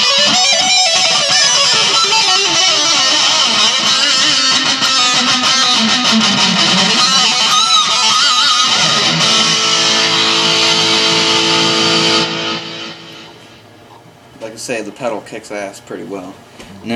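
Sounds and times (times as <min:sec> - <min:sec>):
distorted electric guitar: 0:00.0 - 0:13.6.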